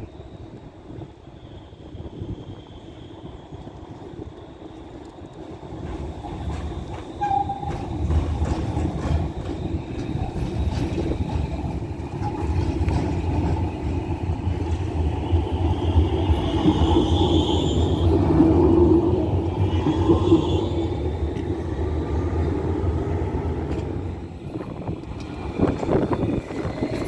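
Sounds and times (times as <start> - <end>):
tram rumbling past: 3.4 - 27.0.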